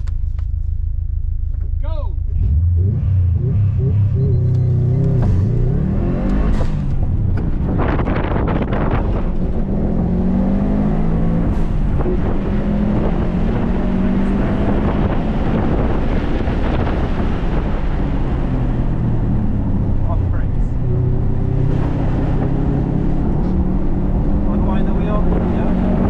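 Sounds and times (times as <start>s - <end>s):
car engine driven hard: 0.0s - 26.0s
wind noise: 4.9s - 26.0s.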